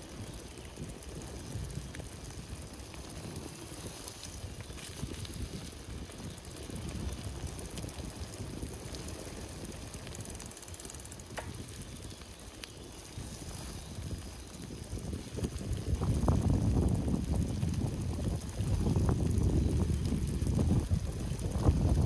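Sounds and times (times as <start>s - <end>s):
bike clicks and rattles: 0.0s - 22.0s
bike tyres rumbling on ground: 0.0s - 22.0s.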